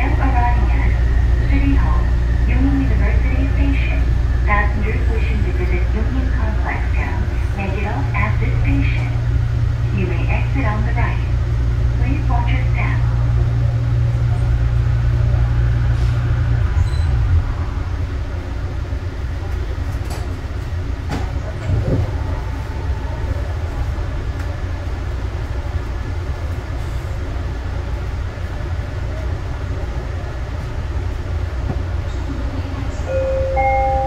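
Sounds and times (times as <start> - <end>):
steady cabin hum: 0.0 - 34.0.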